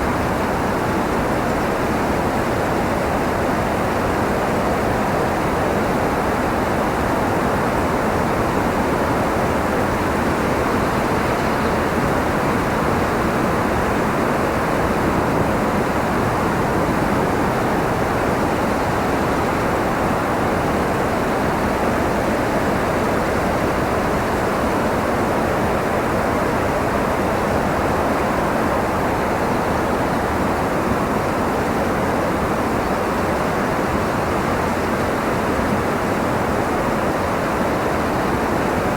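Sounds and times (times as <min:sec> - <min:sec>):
steady wind noise: 0:00.0 - 0:38.9.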